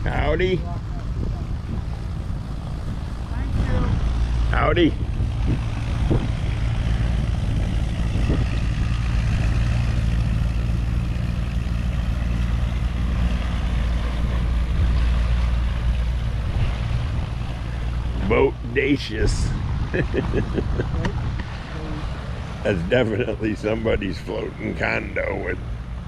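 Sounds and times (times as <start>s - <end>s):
boat engines humming: 0.0s - 26.0s.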